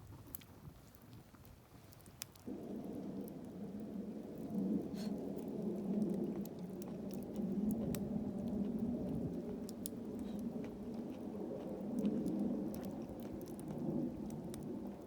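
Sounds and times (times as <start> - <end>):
campfire flame rushing: 0.0 - 15.0
fire crackles and pops: 0.0 - 15.0.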